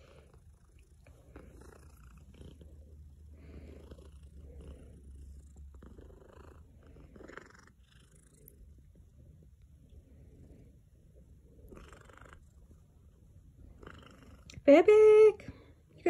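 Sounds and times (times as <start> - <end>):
cat purring: 0.0 - 14.6.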